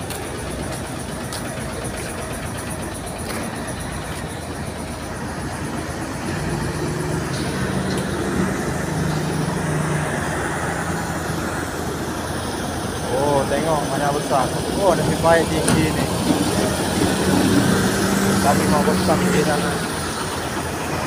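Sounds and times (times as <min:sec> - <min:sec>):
heavy diesel truck engine: 0:00.0 - 0:21.0
road traffic noise: 0:00.0 - 0:21.0.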